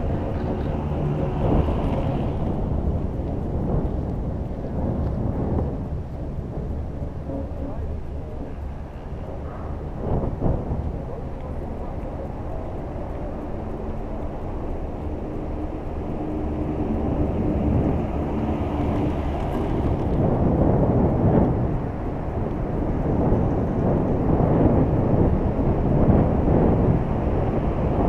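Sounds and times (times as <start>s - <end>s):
gondola cabin rumbling on cable: 0.0s - 28.0s.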